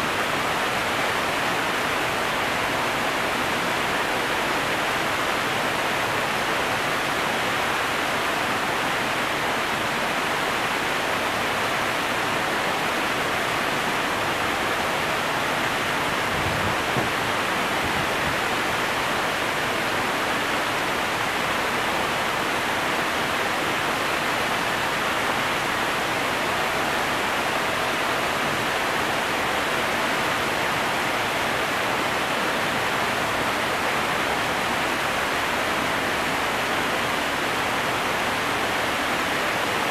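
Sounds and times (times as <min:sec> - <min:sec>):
water rushing through lock gates: 0:00.0 - 0:39.9.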